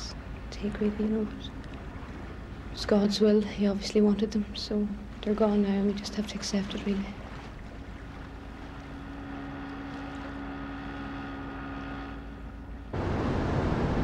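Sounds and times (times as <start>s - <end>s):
boat engine running: 0.0s - 14.0s
wind: 0.0s - 14.0s.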